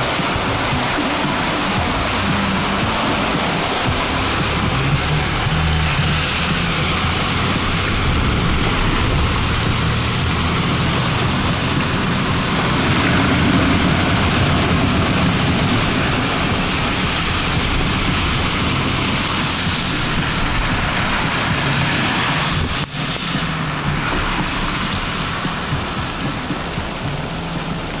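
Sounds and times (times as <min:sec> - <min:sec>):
low rumble: 0:00.0 - 0:28.0
water rushing and hissing: 0:00.0 - 0:28.0.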